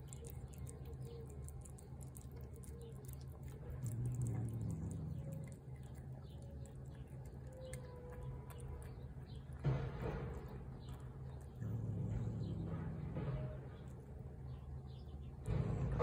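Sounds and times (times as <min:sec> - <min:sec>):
cat chewing wet food: 0:00.0 - 0:13.0.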